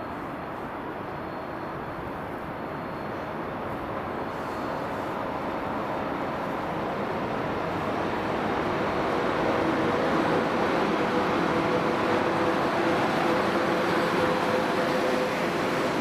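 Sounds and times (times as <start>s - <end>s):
train rolling on rails: 0.0s - 16.0s.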